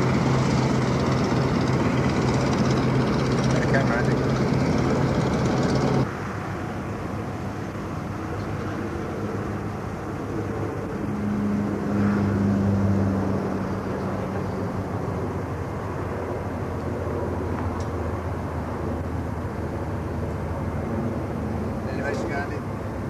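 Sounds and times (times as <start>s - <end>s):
distant turboprop engines droning: 0.0s - 23.0s.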